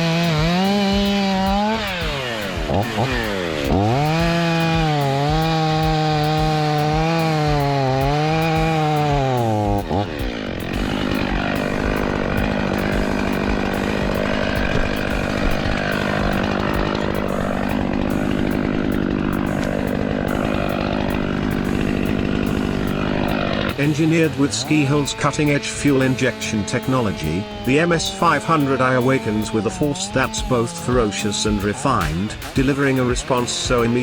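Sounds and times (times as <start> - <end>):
chainsaw running at high revs: 0.0 - 34.0.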